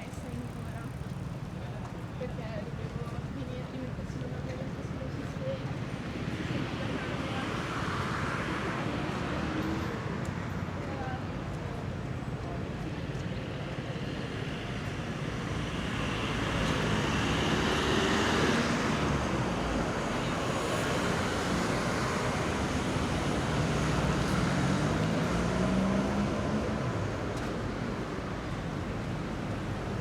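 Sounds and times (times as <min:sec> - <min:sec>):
vehicles driving past: 0:00.0 - 0:30.0.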